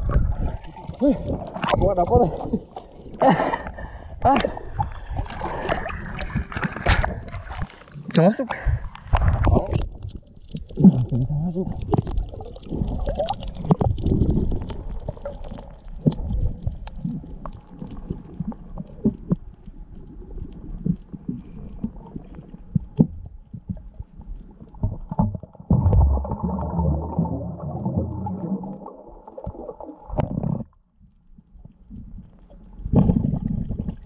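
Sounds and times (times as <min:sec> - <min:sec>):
underwater rumbling water: 0:00.0 - 0:34.0.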